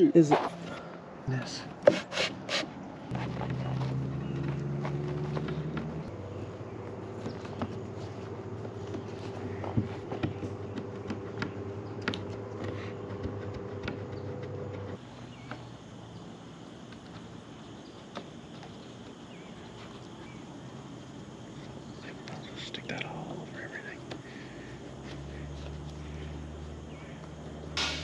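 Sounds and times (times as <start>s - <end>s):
steady low hum: 2.8s - 28.0s.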